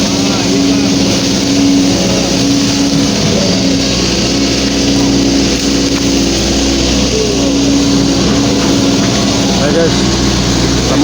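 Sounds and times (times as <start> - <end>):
excavator diesel engine: 0.0 - 11.0.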